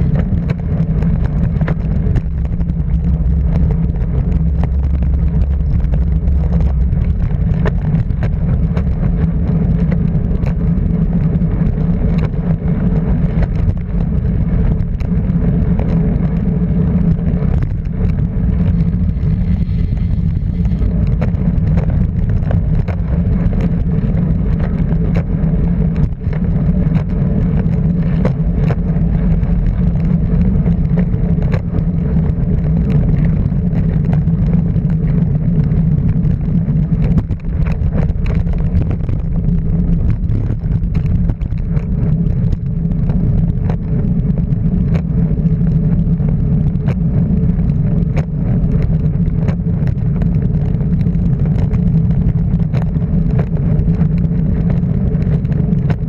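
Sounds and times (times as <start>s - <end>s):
car engine drone: 0.0s - 56.0s
road noise: 0.0s - 56.0s.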